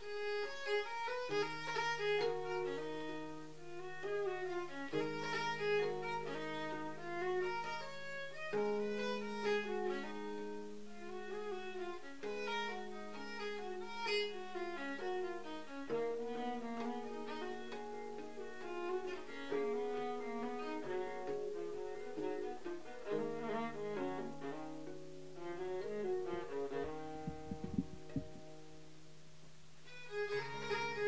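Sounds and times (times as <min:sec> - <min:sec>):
viola playing folk melody: 0:00.0 - 0:29.1, 0:29.8 - 0:31.0
plucked string accompaniment: 0:00.0 - 0:31.0.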